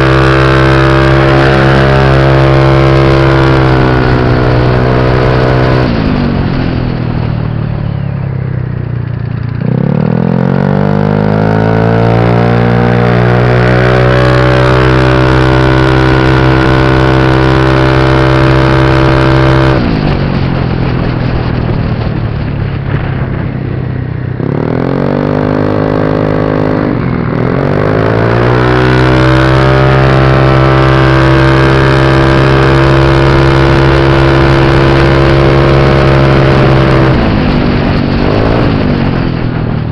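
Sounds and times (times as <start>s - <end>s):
motor scooter engine accelerating: 0.0s - 39.9s.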